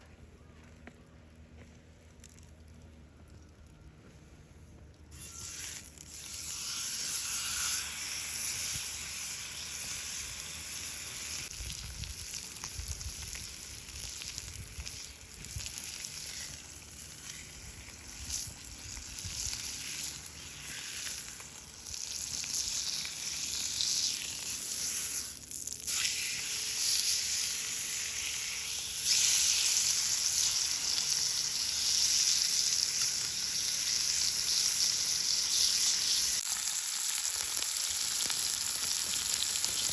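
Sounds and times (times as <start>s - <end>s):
food sizzling in a pan: 5.2s - 39.9s.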